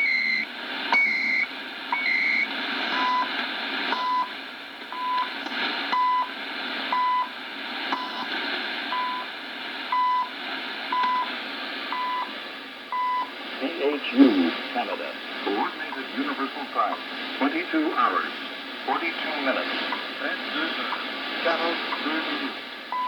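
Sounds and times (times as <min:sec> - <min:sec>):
shortwave receiver hiss: 0:00.0 - 0:23.0.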